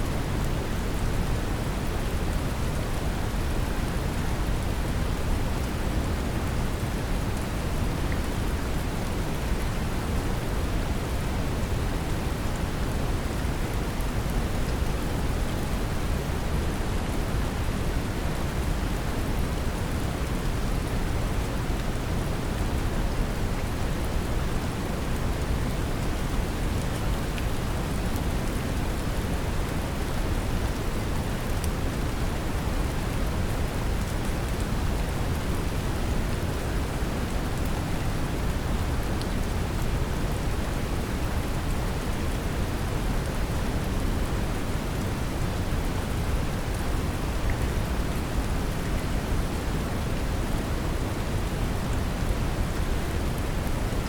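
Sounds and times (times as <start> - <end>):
gentle rain: 0.0 - 54.0.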